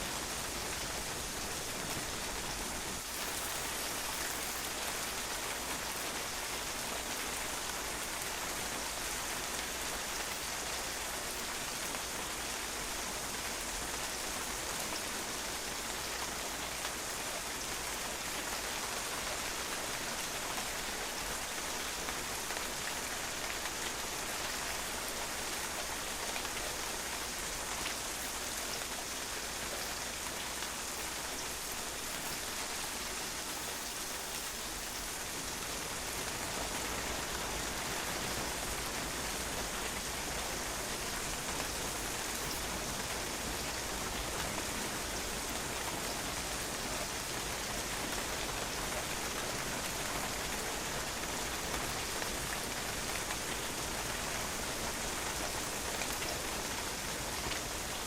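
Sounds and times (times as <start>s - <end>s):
rain spattering on a patio: 0.0s - 58.0s.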